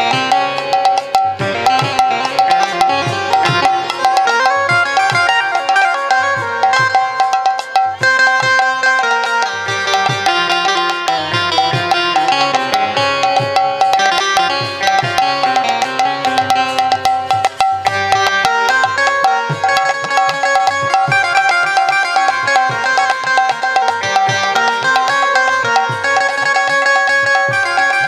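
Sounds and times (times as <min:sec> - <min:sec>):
clicking percussion: 0:00.0 - 0:28.0
hand drum pitch-bending strokes: 0:00.0 - 0:28.0
sustained melodic line: 0:00.0 - 0:28.0.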